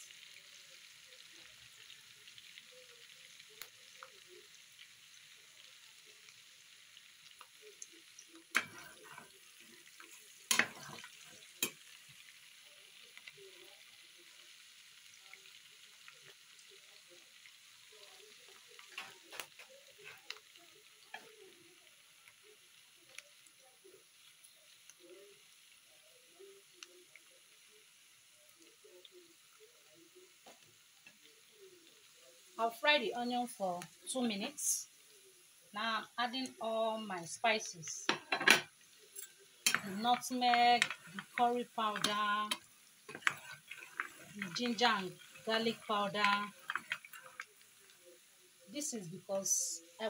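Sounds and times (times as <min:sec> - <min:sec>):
onions sizzling in frying pan: 0:00.0 - 0:50.0.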